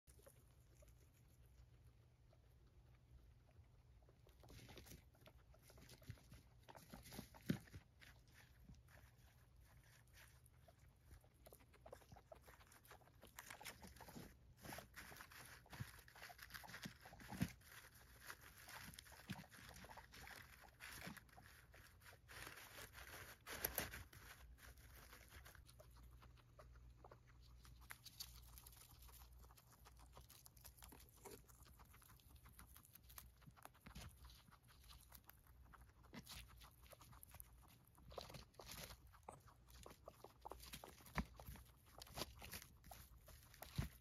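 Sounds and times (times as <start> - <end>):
guinea pigs chewing hay: 0.0 - 44.0.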